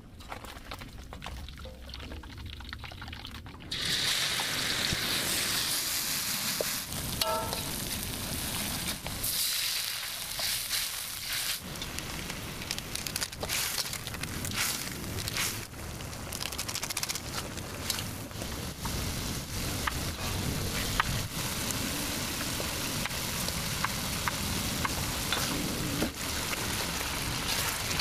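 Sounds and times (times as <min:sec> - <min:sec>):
food frying in hot oil: 0:03.7 - 0:16.5, 0:17.2 - 0:28.0.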